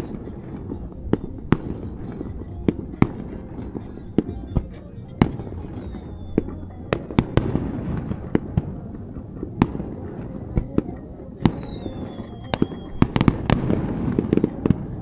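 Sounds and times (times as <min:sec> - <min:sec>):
firework whistle falling: 0:00.0 - 0:15.0
fireworks bangs: 0:00.0 - 0:15.0.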